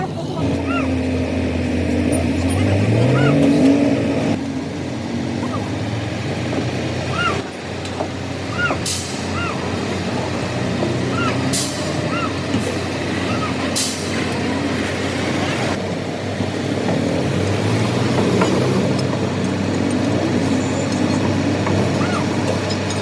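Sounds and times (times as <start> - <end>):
truck diesel engine revving: 0.0 - 23.0.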